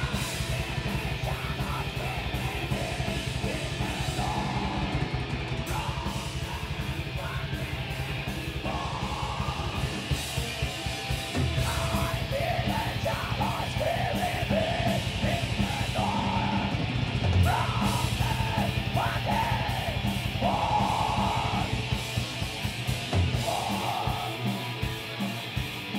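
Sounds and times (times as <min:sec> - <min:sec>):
harsh yelled vocals: 0:00.0 - 0:10.2, 0:11.4 - 0:22.1, 0:23.2 - 0:25.0
distorted guitars: 0:00.0 - 0:25.9
rapid drumming: 0:00.0 - 0:25.9.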